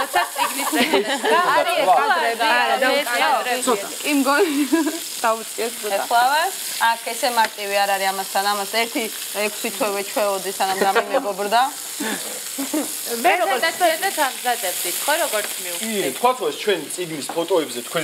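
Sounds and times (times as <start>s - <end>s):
meat patties sizzling in a pan: 0.0s - 18.0s
people talking: 0.0s - 18.0s.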